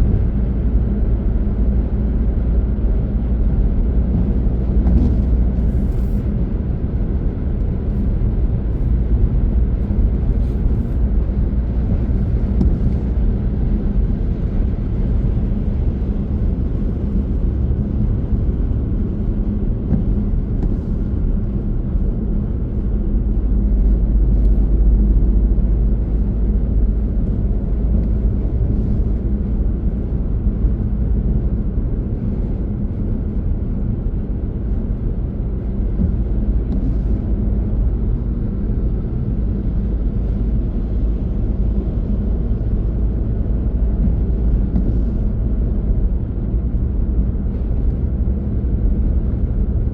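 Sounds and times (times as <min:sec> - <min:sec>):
car tyres and engine rumble: 0:00.0 - 0:49.9.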